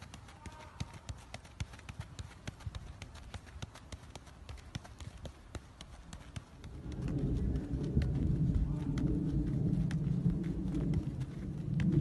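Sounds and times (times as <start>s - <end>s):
football tapped between feet: 0.0s - 12.0s
light footsteps on grass: 0.0s - 12.0s.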